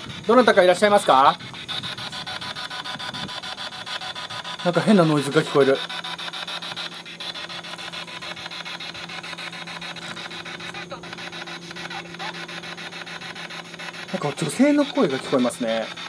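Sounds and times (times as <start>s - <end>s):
radio scanner static sweeping: 0.0s - 16.0s
steady low hum: 0.0s - 16.0s.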